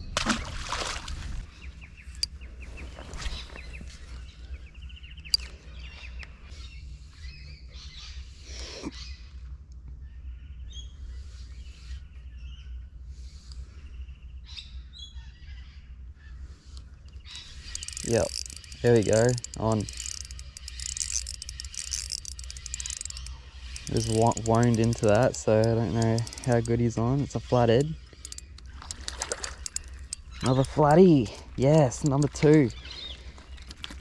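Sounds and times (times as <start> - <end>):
small birds chirping: 1.4 - 34.0.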